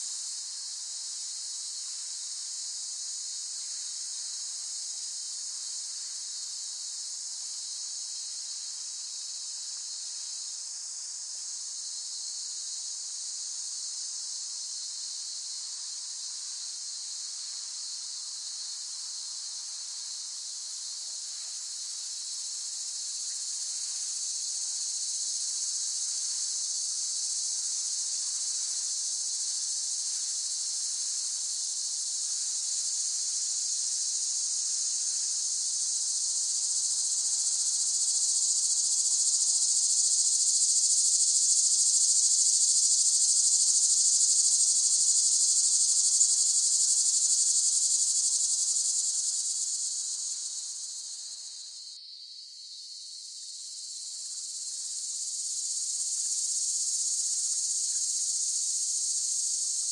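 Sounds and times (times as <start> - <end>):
cicadas buzzing: 9.1 - 12.7, 14.7 - 20.2, 20.8 - 59.9.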